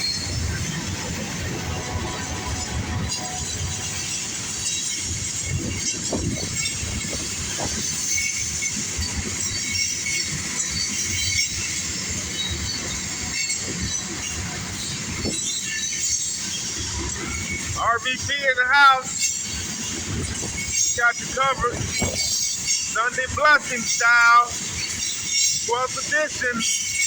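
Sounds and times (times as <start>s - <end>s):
train cars clanking: 0.0s - 27.0s
train wheels rumbling on rail: 0.0s - 27.0s.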